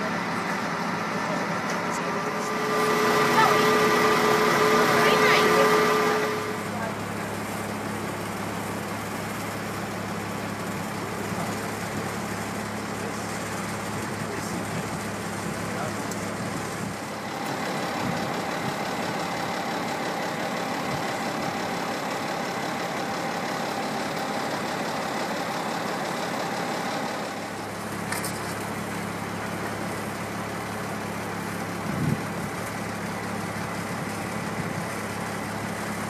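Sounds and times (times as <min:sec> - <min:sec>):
street noise: 0:00.0 - 0:36.0
vehicle engine idling: 0:00.0 - 0:36.0.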